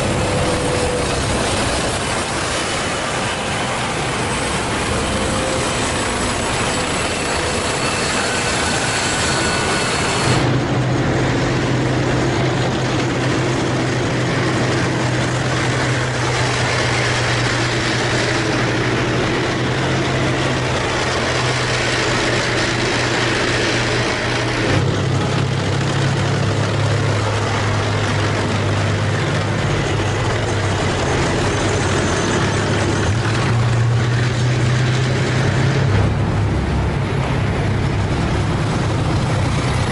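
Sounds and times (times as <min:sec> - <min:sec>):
tank engine drone: 0:00.0 - 0:39.9
tank tracks rumbling: 0:00.0 - 0:39.9.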